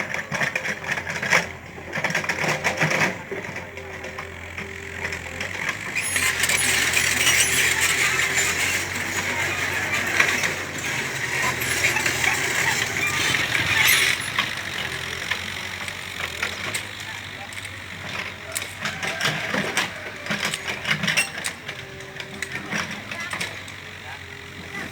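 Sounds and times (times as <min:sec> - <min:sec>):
excavator engine humming: 0:00.0 - 0:24.9
gritty rattle of earth and gravel: 0:00.0 - 0:24.9.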